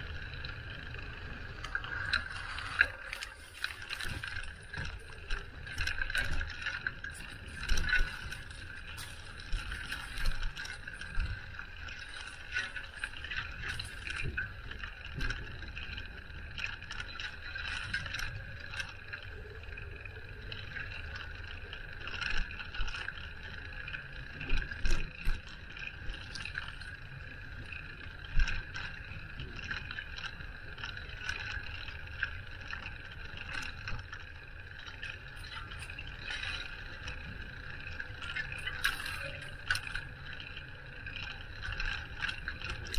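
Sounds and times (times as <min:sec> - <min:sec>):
bicycle rattles and knocks: 0:00.0 - 0:42.9
bicycle riding rumble: 0:00.0 - 0:42.9.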